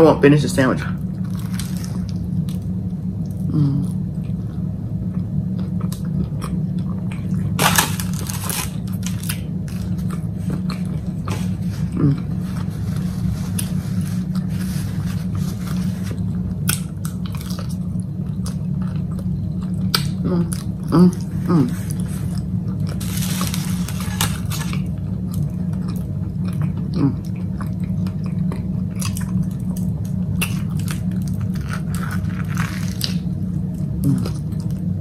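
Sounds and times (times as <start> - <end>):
steady low hum: 0.0 - 35.0
chewing and crunching: 1.0 - 35.0.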